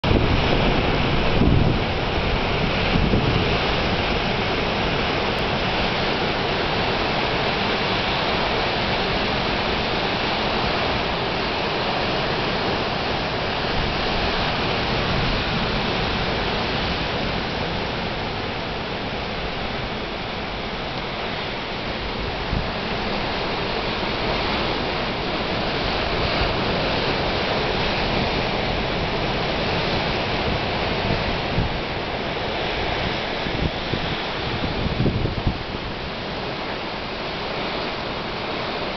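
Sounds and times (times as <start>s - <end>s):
storm surf breaking on rocks: 0.0s - 38.9s
wind gusting on microphone: 0.0s - 38.9s.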